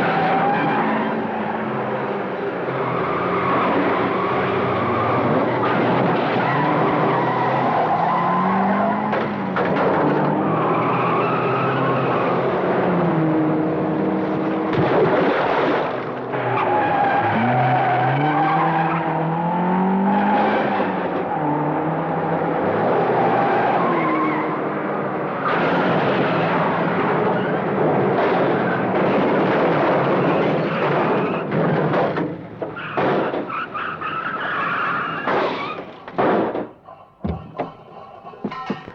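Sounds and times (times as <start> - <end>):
tyres squealing and skidding: 0.0 - 12.9, 16.1 - 38.9
car engines revving: 0.0 - 38.9.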